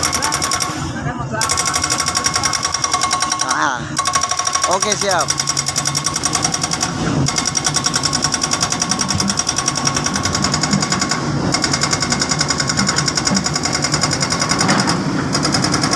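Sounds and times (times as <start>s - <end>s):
diesel engine clattering: 0.0s - 15.9s.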